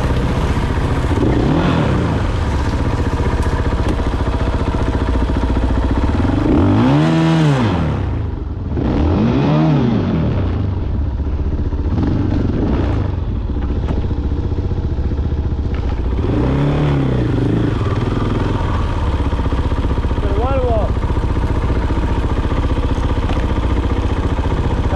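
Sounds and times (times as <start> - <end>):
dirt bike engine revving: 0.0 - 10.8, 11.8 - 13.4, 15.7 - 24.9.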